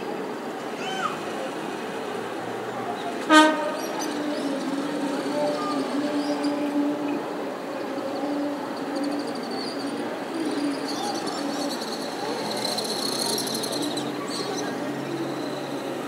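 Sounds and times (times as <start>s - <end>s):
distant traffic and street noise: 0.0s - 16.0s.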